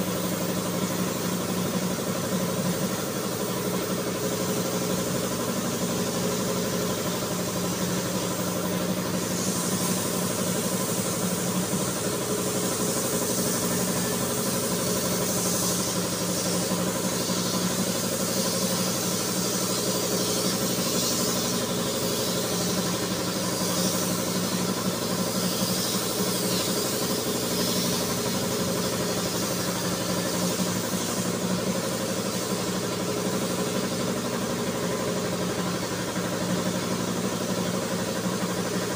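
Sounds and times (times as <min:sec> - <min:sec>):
air compressor humming: 0:00.0 - 0:38.9
compressed air hissing: 0:00.0 - 0:38.9.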